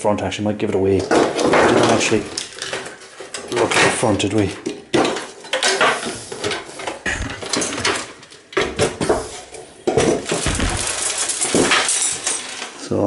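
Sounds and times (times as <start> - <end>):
metal panels clattering: 1.0 - 12.9.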